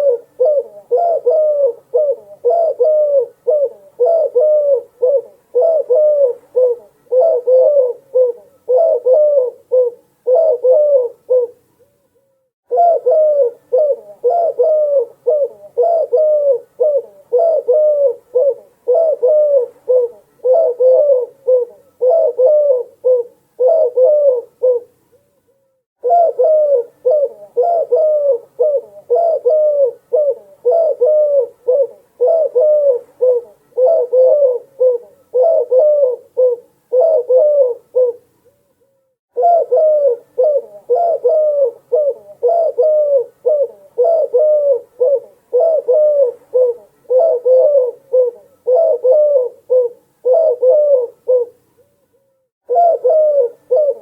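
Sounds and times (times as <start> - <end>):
doves cooing: 0.0 - 11.7, 12.7 - 25.0, 26.0 - 38.3, 39.3 - 51.6, 52.6 - 54.0.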